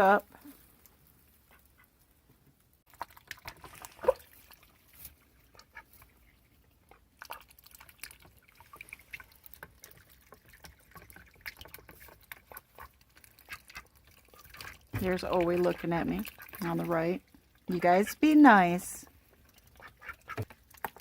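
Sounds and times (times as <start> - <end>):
small splashes: 2.9 - 21.0.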